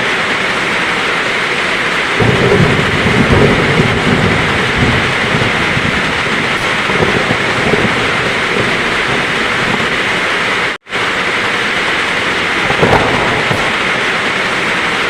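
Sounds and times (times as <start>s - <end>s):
heavy rain falling: 0.0s - 15.0s
faint low thunder rumble: 2.0s - 15.0s.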